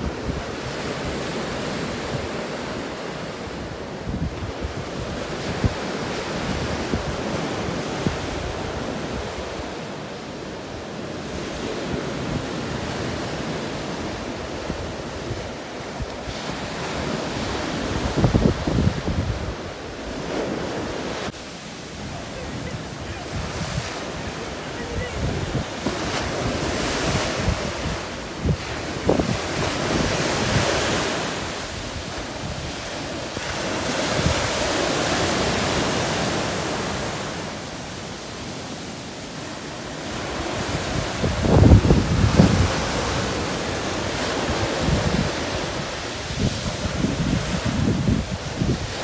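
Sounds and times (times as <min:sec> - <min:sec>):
wind buffeting microphone: 0:00.0 - 0:09.8, 0:11.2 - 0:37.4, 0:40.0 - 0:49.0
sea waves breaking: 0:00.0 - 0:49.0.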